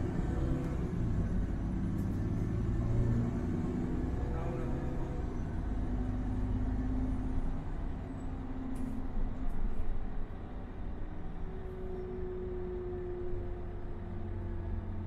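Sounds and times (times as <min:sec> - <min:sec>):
bus drivetrain drone: 0:00.0 - 0:15.0
road rumble: 0:00.0 - 0:15.0.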